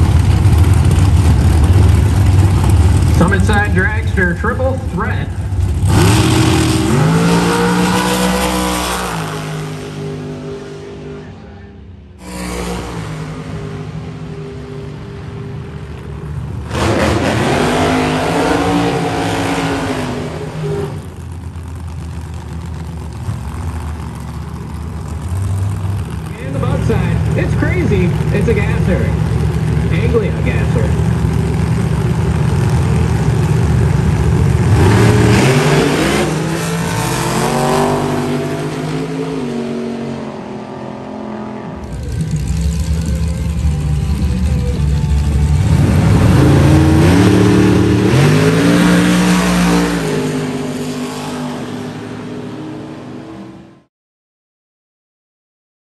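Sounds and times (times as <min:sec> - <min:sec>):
tires spinning: 0:00.0 - 0:53.0
drag car engine revving: 0:00.0 - 0:53.7.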